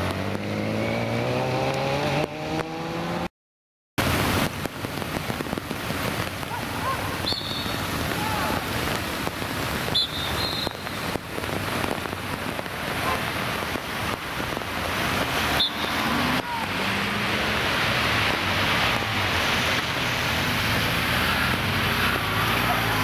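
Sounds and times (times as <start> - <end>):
rain and tyres hissing: 0.0 - 3.3, 4.0 - 23.0.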